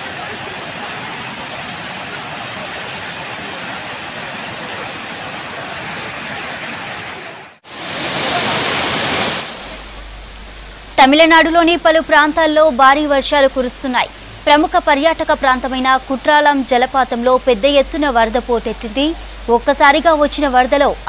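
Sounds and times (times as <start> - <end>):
water rushing in a torrent: 0.0 - 16.9.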